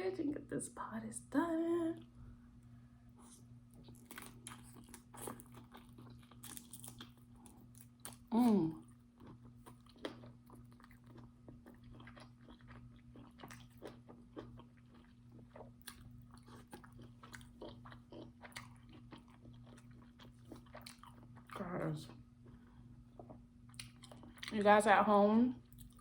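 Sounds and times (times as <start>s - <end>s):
chewing and crunching food: 3.1s - 26.0s.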